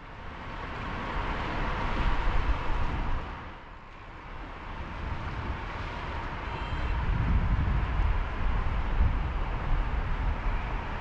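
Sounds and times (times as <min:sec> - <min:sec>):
rumble of passing vehicles: 0:00.0 - 0:11.0
tyres hissing on wet road: 0:00.1 - 0:11.0.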